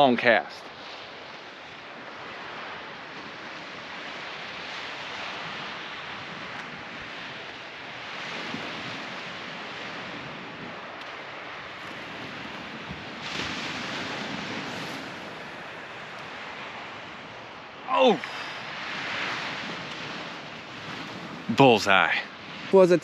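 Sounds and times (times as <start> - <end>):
gentle surf on beach: 0.0 - 23.0
wind noise on microphone: 0.0 - 23.0.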